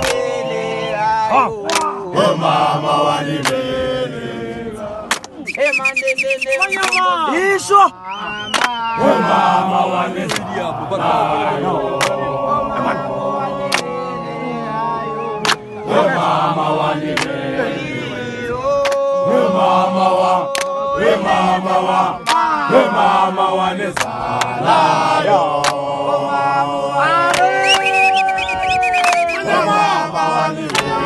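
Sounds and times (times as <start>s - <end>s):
men singing a chant: 0.0s - 31.0s.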